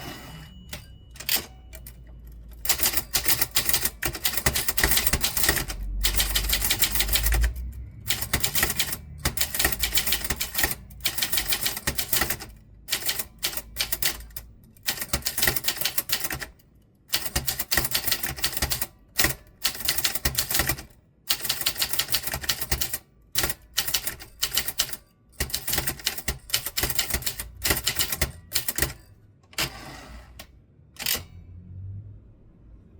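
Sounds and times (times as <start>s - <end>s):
typewriter key strikes: 0.1s - 29.7s, 31.0s - 31.3s.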